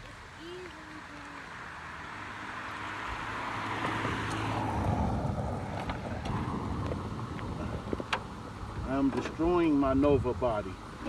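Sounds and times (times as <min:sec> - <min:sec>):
vehicle passing by: 0:01.0 - 0:10.7.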